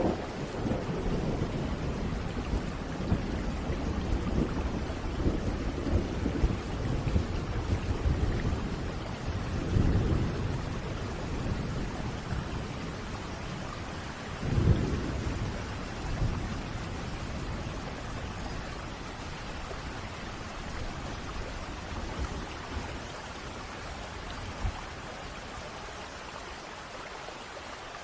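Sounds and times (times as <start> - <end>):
thunder rumbling: 0.0 - 25.1
rain hissing: 0.0 - 28.0.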